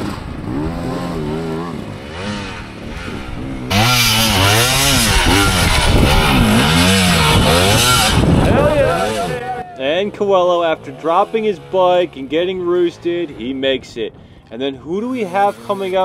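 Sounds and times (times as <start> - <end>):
dirt bike engine revving: 0.0 - 13.9, 14.8 - 16.0.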